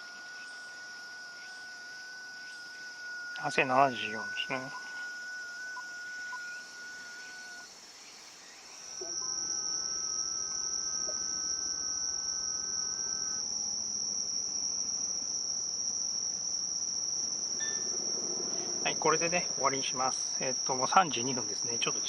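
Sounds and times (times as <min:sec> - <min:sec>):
crickets trilling: 0:00.0 - 0:22.0
faint steady tones: 0:00.0 - 0:22.0.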